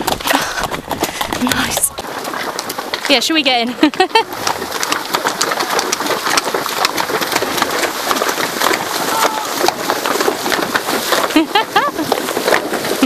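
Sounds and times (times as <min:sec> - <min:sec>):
horse hooves clopping on stones: 0:00.0 - 0:13.0.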